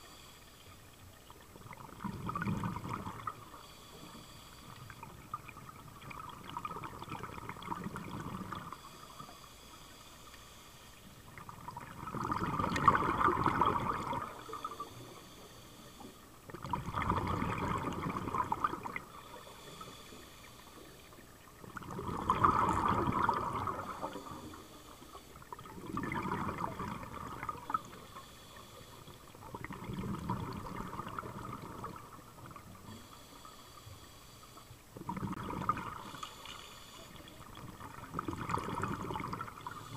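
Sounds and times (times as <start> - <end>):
exhaled bubbles underwater: 0.0 - 9.4, 11.0 - 33.2, 34.8 - 39.9.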